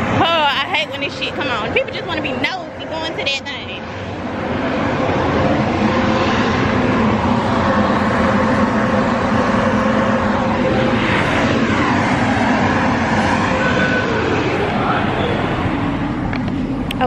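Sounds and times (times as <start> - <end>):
blower-like machine rushing: 0.0 - 17.0.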